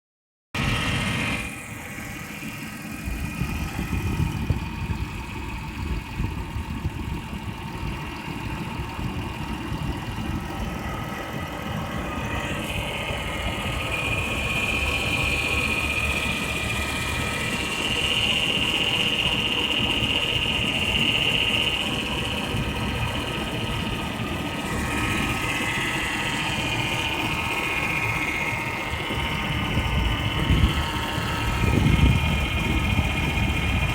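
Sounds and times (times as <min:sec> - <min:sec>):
car engine idling: 0:00.6 - 0:33.9.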